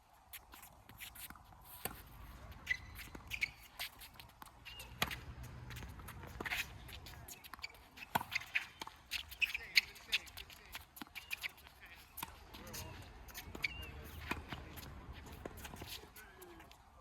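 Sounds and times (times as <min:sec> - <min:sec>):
shoes scuffing on hard court: 0:00.3 - 0:16.6.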